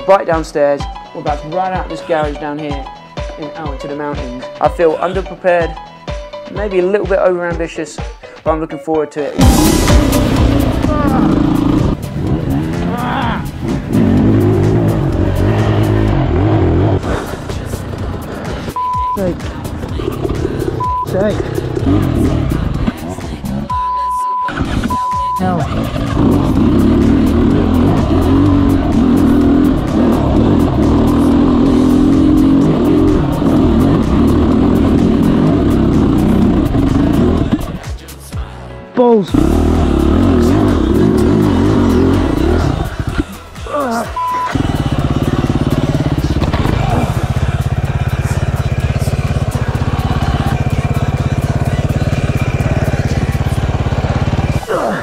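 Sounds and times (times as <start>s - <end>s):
dirt bike engine running: 9.4s - 38.1s, 39.3s - 54.8s.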